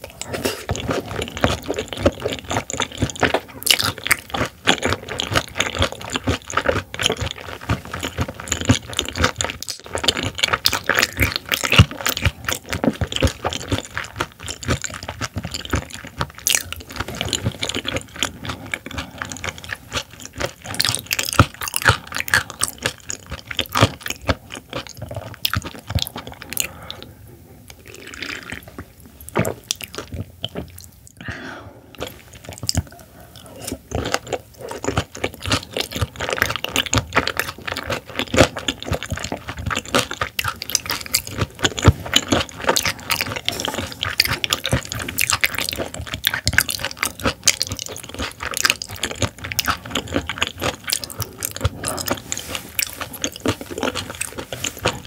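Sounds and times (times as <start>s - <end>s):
wet chewing: 0.0s - 31.3s, 31.9s - 55.0s.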